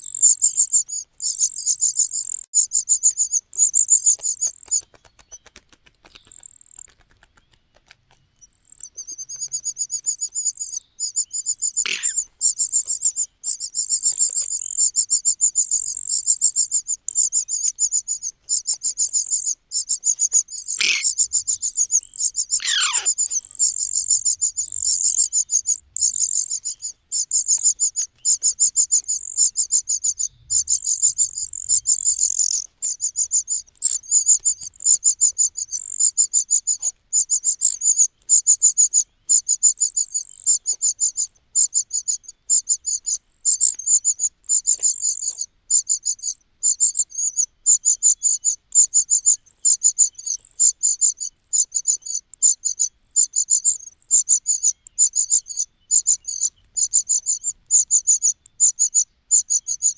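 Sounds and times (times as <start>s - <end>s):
nestlings begging chirps: 0.0s - 7.6s, 8.3s - 59.9s.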